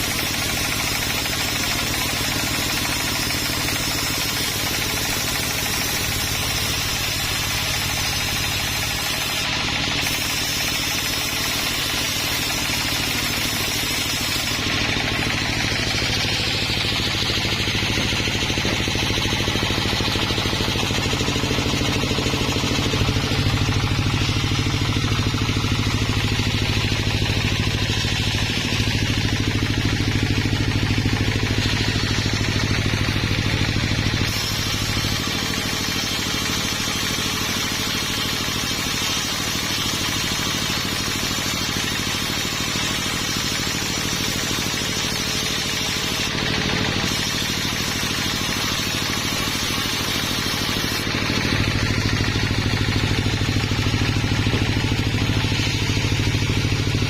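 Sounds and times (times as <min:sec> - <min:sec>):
engine hum: 0:00.0 - 0:37.7, 0:42.8 - 0:57.0
saw whirring: 0:00.0 - 0:57.0.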